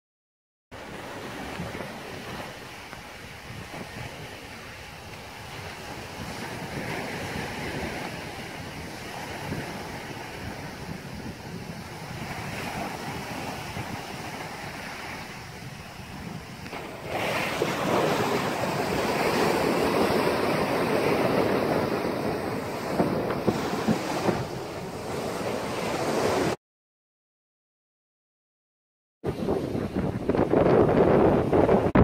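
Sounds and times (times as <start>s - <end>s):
ocean surf: 0.8s - 26.6s, 29.3s - 32.0s
wind buffeting microphone: 0.8s - 26.6s, 29.2s - 32.0s.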